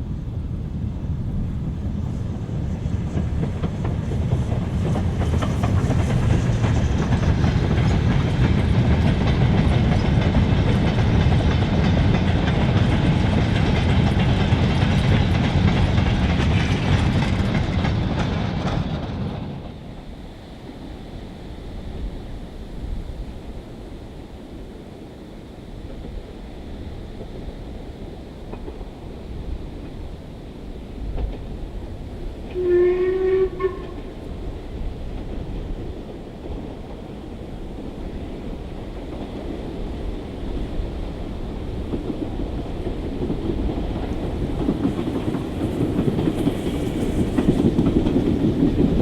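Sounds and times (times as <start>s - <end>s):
steam train passing: 0.0s - 49.0s.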